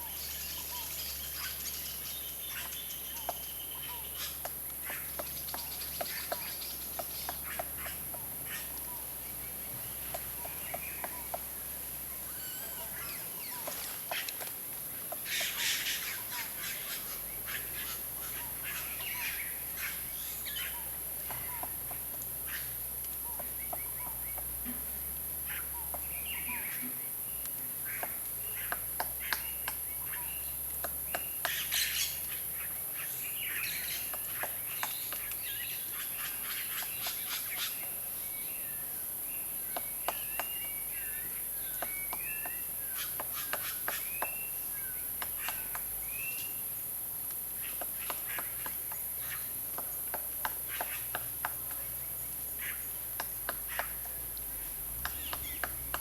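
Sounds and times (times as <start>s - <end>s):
birds chirping: 0.0s - 56.0s
steady high hiss: 0.0s - 56.0s.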